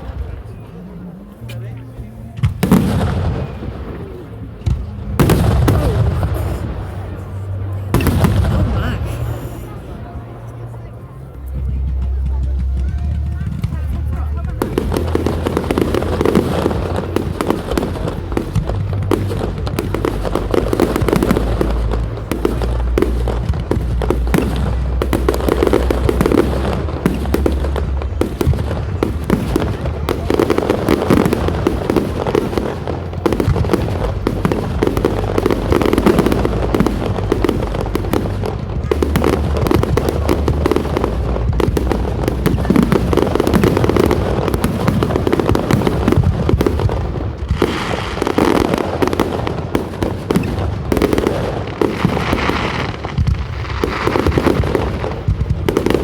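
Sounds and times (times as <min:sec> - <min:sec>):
firework bangs barrage: 0:02.4 - 0:10.2, 0:11.8 - 0:56.0.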